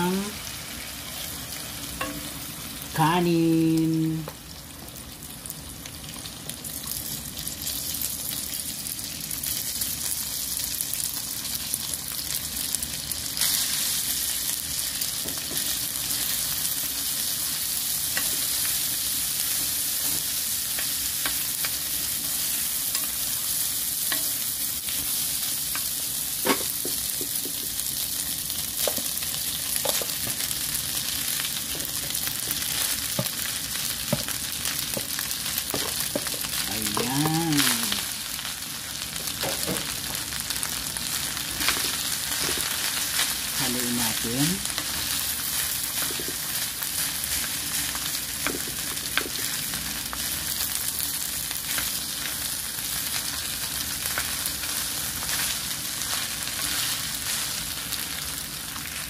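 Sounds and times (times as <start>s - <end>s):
rice sizzling in a pan: 0.0s - 59.0s.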